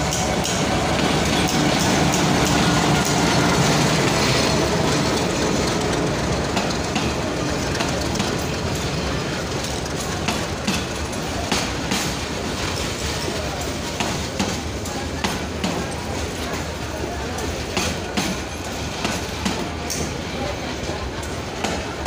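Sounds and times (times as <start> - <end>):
diesel locomotive engine: 0.0 - 22.0
train wheels clacking on rail joints: 0.0 - 22.0.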